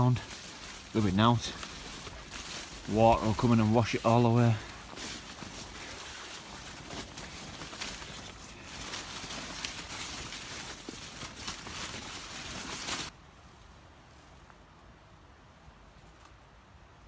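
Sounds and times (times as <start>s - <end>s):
footsteps through vegetation: 0.0s - 14.6s.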